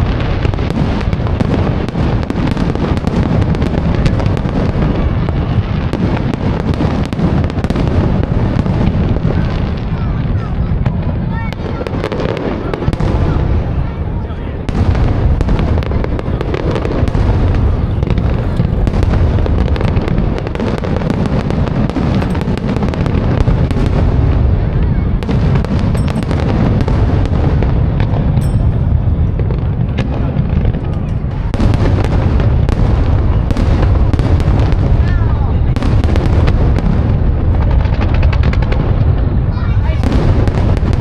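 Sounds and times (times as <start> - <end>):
fireworks booming: 0.0 - 41.0
fireworks crackling and popping: 0.0 - 41.0.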